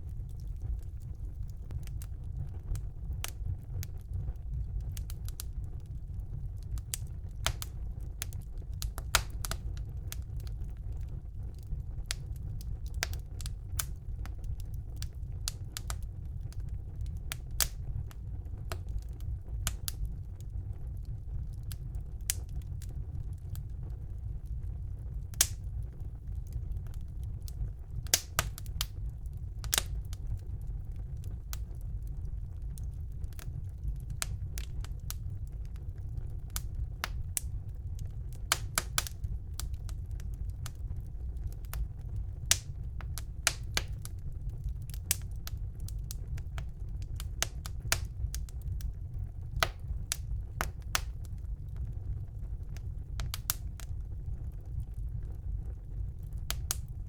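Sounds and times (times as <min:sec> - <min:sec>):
fire crackling and popping: 0:00.0 - 0:57.0
flames rumbling: 0:00.0 - 0:57.0.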